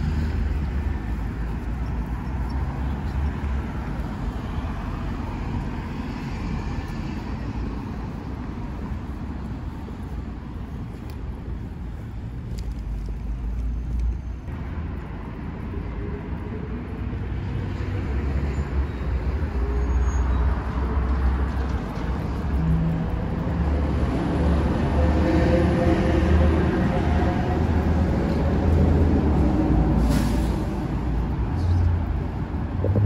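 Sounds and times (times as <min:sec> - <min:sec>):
passing vehicles: 0:00.0 - 0:33.0.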